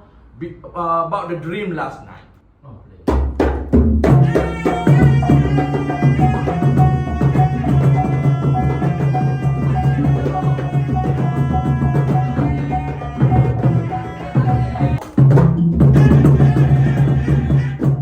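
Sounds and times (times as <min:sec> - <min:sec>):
hand drums playing: 0:03.1 - 0:18.0.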